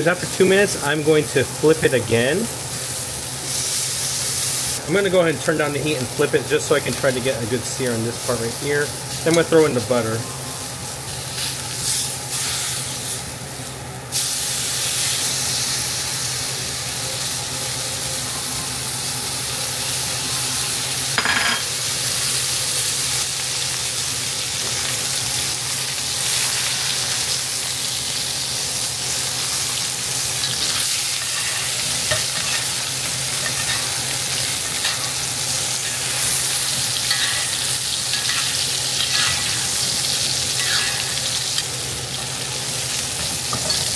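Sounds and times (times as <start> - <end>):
steak sizzling in skillet: 0.0 - 43.9.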